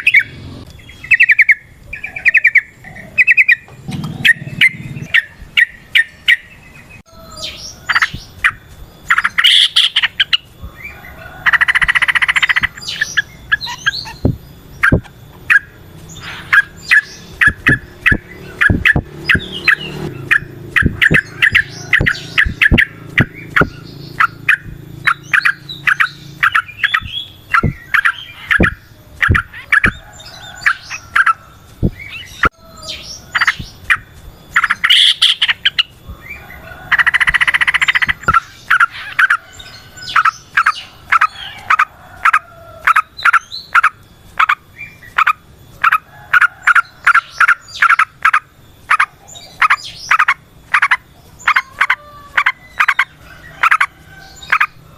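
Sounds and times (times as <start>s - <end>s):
bird singing bubbly chirps: 0.0s - 54.8s.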